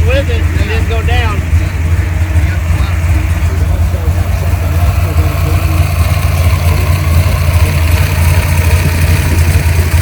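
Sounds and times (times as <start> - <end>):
car engine running at low revs: 0.0 - 10.0.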